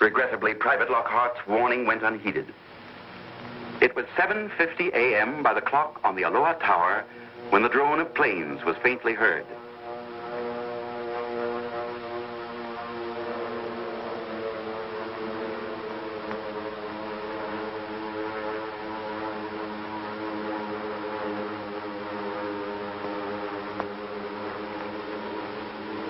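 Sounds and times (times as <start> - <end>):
propeller planes droning: 0.0 - 26.0.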